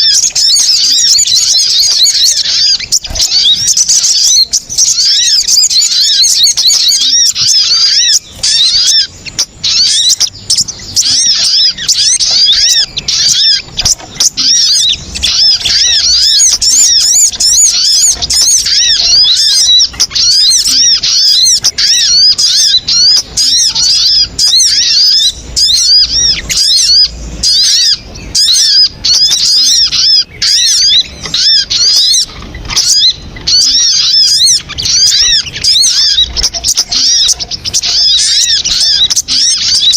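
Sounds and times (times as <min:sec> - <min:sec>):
high-pitched chattering bird calls: 0:00.0 - 0:39.9.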